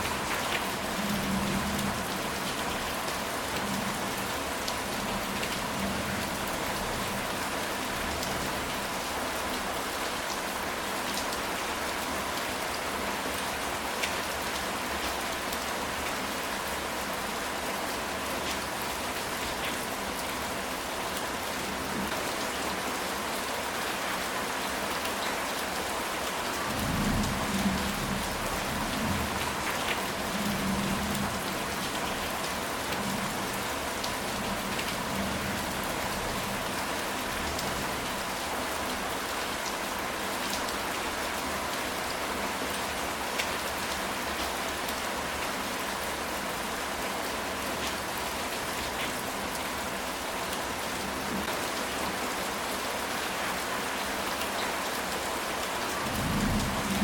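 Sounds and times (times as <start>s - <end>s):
rain on a tile roof: 0.0s - 57.0s.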